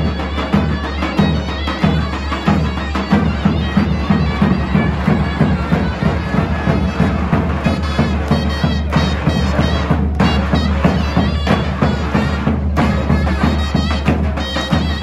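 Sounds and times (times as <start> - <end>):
large drums steady beat: 0.0 - 15.0
zurna wavering melody: 0.0 - 15.0.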